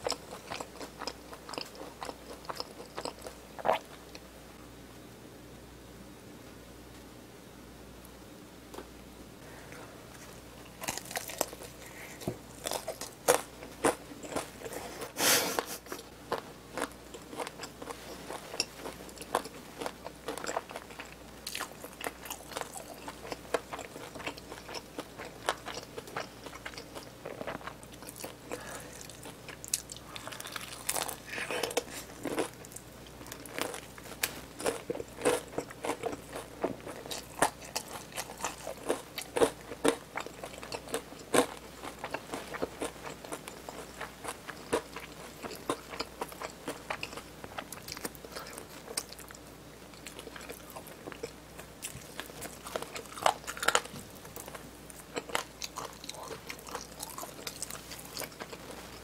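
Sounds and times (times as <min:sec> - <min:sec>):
crunching and chewing fried chicken: 0:00.0 - 0:04.3, 0:10.1 - 0:59.0.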